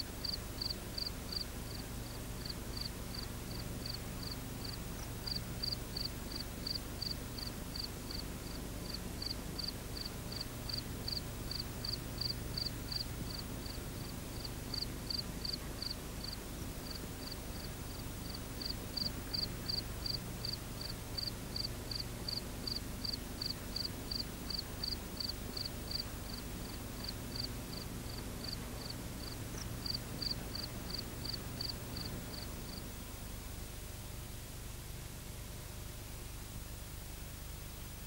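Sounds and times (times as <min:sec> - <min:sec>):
cricket chirping: 0:00.0 - 0:08.2, 0:08.9 - 0:32.9
low hum and hiss: 0:00.0 - 0:38.0.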